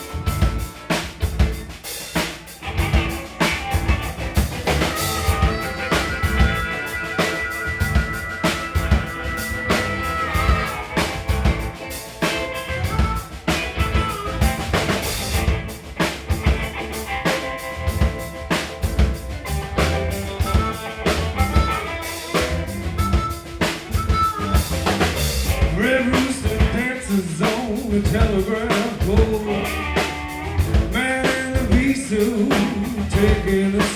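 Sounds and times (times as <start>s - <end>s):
live blues band playing: 0.0s - 33.9s.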